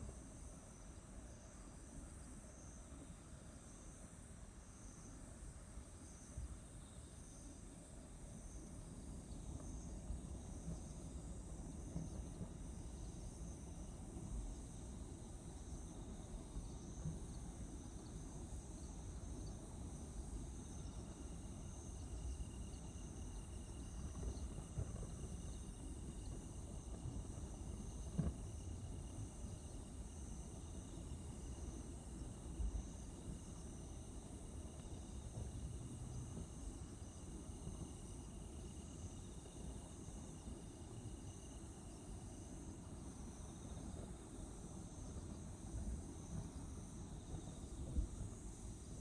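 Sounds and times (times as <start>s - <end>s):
continuous low rumble: 0.0s - 49.0s
crickets trilling: 0.0s - 49.0s.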